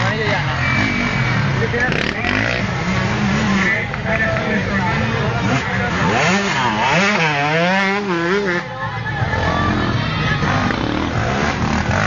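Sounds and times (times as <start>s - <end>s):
background noise: 0.0s - 12.0s
dirt bike engine revving: 0.0s - 12.0s.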